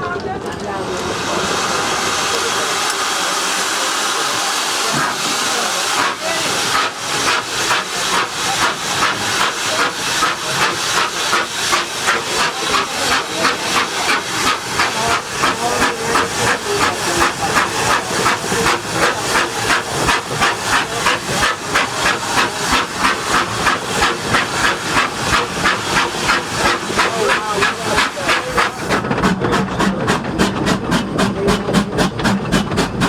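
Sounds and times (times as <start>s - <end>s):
steam locomotive exhaust chuffing: 0.4s - 33.0s.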